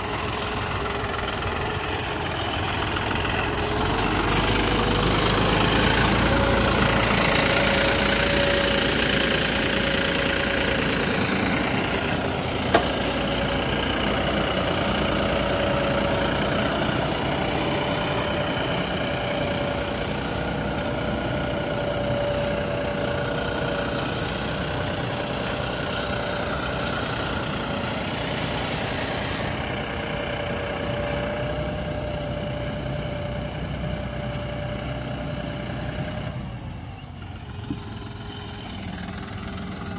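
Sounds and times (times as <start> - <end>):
steady whine: 0.0 - 39.9
tractor diesel engine running: 0.0 - 39.9.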